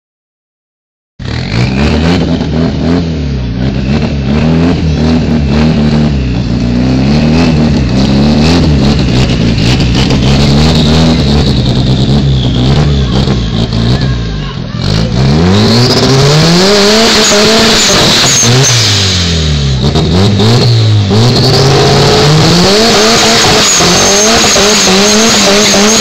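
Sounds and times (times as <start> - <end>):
car engine revving hard: 1.2 - 26.0.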